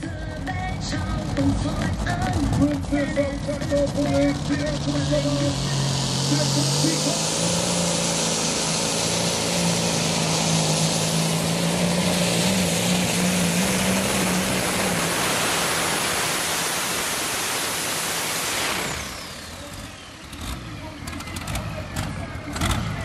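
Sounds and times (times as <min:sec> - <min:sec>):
tractor engine with high whine: 0:00.0 - 0:23.0.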